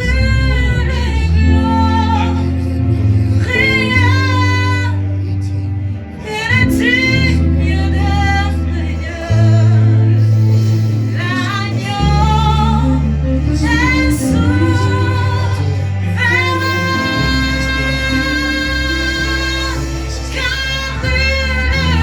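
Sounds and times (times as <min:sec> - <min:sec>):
sustained bass notes: 0:00.0 - 0:22.0
woman singing with vibrato: 0:00.0 - 0:22.0.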